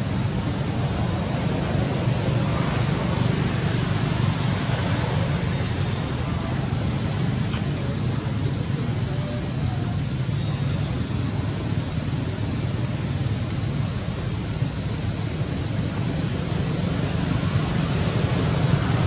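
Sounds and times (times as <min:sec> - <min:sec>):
hiss: 0:00.0 - 0:19.0
low outdoor rumbling: 0:00.0 - 0:19.0
faint voices: 0:00.1 - 0:19.0.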